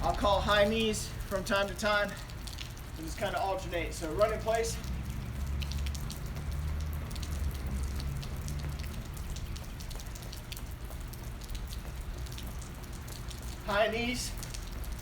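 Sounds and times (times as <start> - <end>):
steady low rumble: 0.0 - 13.0
raindrops ticking: 0.0 - 15.0.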